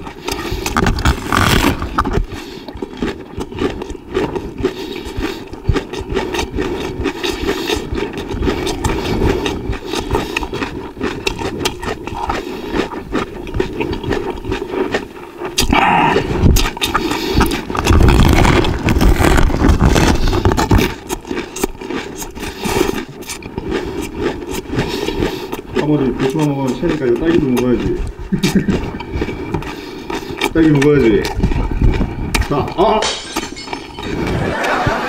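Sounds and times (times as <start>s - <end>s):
crunching and chewing cabbage: 0.0s - 35.0s.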